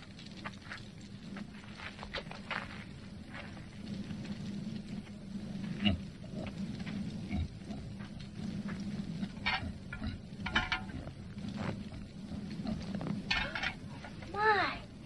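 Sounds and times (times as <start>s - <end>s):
steady low hum: 0.0s - 15.0s
reindeer snuffling and chewing: 0.1s - 14.2s.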